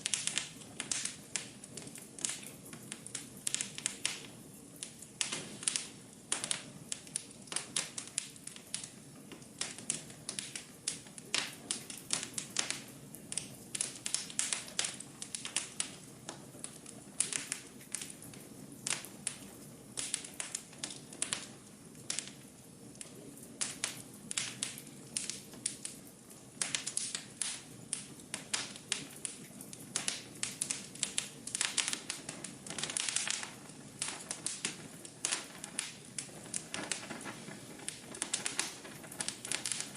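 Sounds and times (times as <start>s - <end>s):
soft rumble of flame: 0.0s - 39.9s
wood fire crackling and popping: 0.0s - 39.9s.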